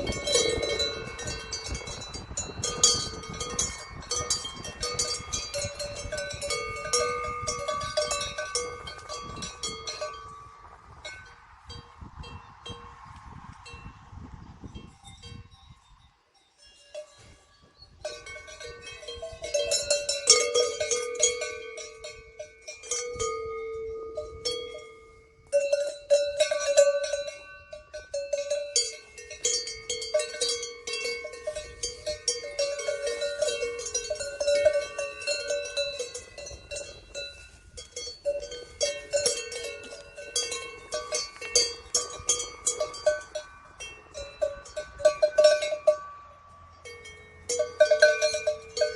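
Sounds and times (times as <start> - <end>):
livestock bells clanking: 0.0 - 13.0, 14.8 - 48.9.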